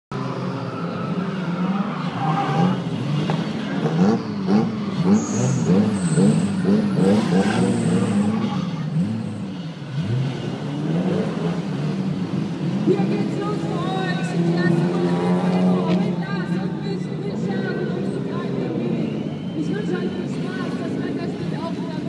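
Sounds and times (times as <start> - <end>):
car engines revving: 0.1 - 22.0.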